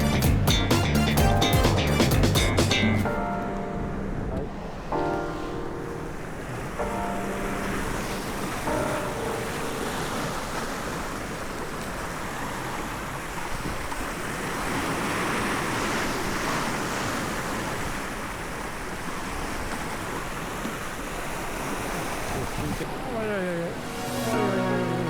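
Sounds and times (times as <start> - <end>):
surf against rocky shore: 2.1 - 25.0.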